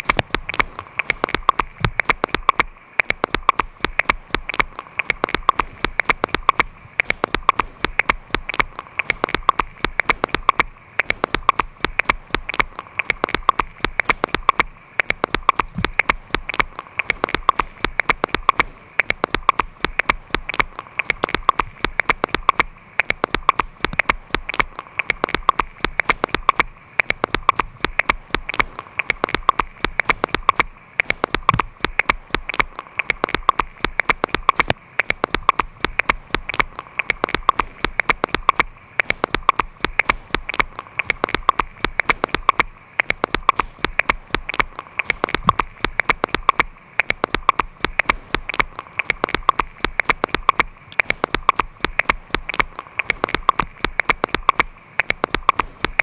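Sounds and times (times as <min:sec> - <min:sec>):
patter of sharp clicks: 0:00.0 - 0:56.0.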